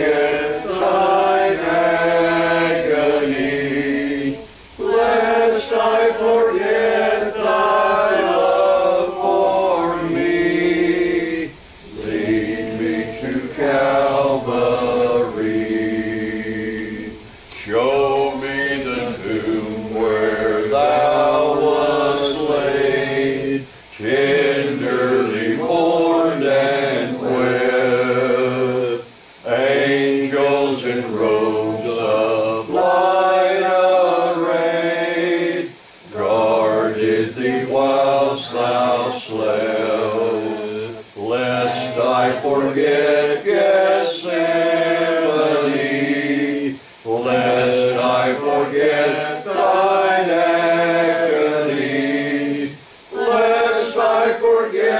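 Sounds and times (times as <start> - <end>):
congregation singing a hymn: 0.0 - 54.9.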